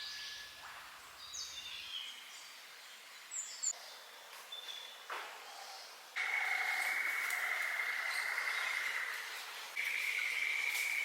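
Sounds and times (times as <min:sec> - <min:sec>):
quiet rainforest ambience: 0:00.0 - 0:11.0.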